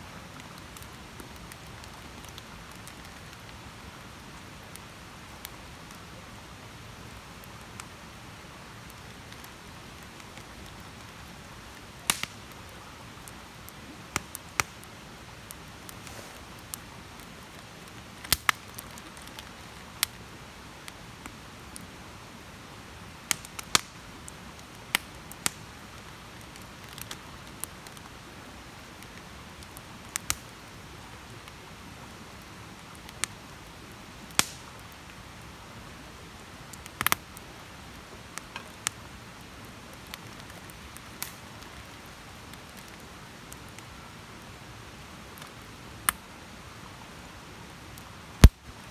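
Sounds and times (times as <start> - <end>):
campfire crackling and popping: 0.2 - 21.8, 23.0 - 28.2, 28.9 - 30.8, 31.4 - 35.5, 36.3 - 44.4, 45.3 - 46.3, 48.0 - 48.9.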